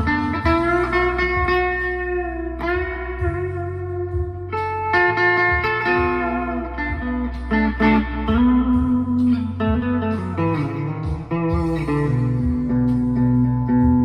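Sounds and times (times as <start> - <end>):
electric guitar melody with reverb: 0.0 - 14.0.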